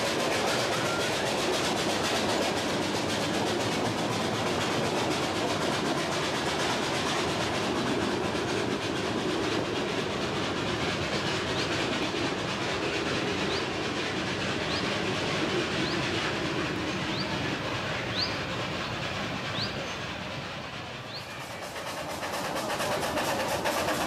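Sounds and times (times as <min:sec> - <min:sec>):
train wheels clickety-clack: 0:00.0 - 0:24.0.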